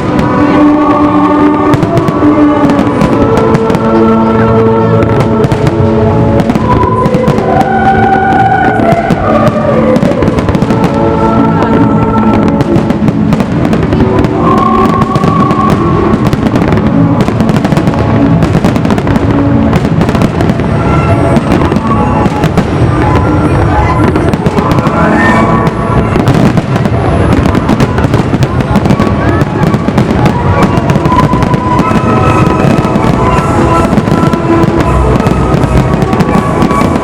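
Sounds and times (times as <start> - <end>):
fireworks bangs and crackle: 0.0 - 37.0
loud music: 0.0 - 37.0
rising firework whistle: 0.0 - 37.0.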